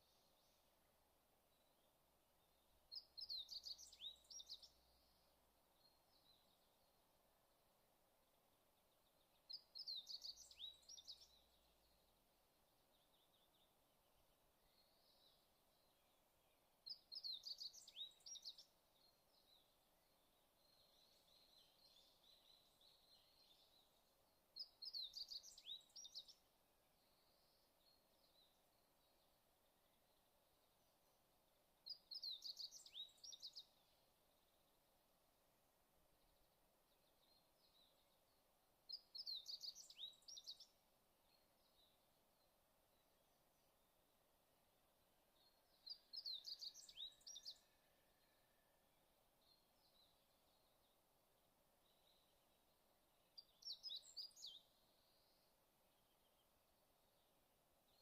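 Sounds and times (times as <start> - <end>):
faint steady hiss: 0.0 - 58.0
songbird chirping: 0.0 - 58.0.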